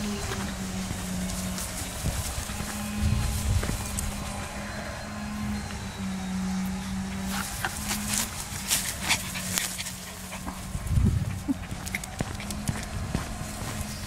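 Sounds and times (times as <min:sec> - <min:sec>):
dog moving in grass: 0:00.0 - 0:04.9, 0:06.8 - 0:14.0
steady low hum: 0:00.0 - 0:14.0.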